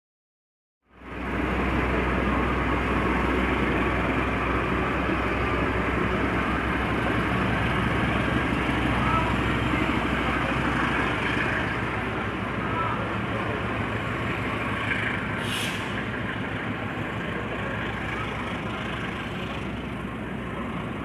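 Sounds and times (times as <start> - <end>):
train rumbling past: 0.9 - 21.0.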